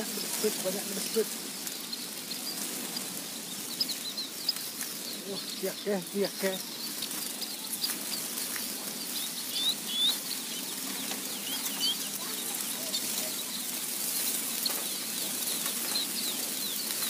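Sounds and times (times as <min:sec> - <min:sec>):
small birds chirping: 0:00.0 - 0:17.0
steady hiss: 0:00.0 - 0:17.0.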